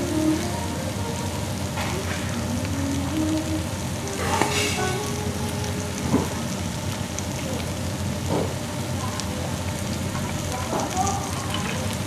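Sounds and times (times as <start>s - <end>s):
meat sizzling on a grill pan: 0.0s - 12.0s.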